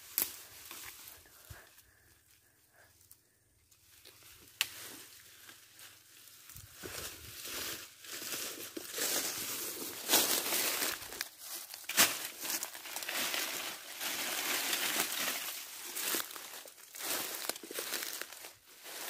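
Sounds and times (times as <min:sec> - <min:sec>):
dry grass rustling and crackling: 0:00.0 - 0:19.0.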